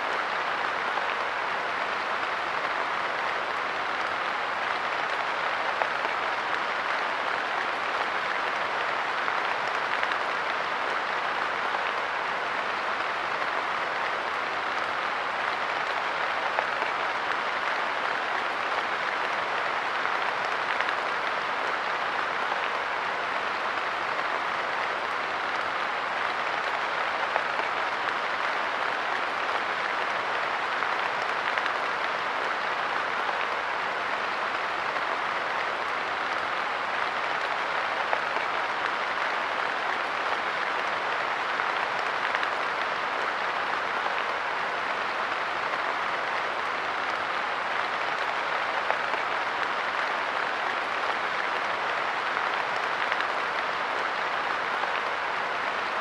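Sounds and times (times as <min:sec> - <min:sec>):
light rain on a bench: 0:00.0 - 0:56.0.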